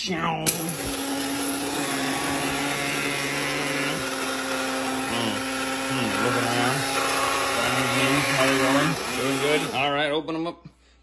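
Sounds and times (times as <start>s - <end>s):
coffee grinder motor whine: 0.5s - 9.9s.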